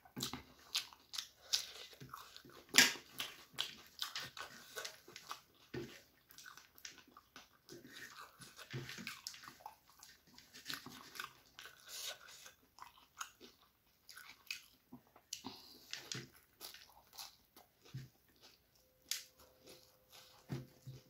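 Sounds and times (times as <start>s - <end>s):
crunching and chewing puffed rice: 0.0s - 21.0s.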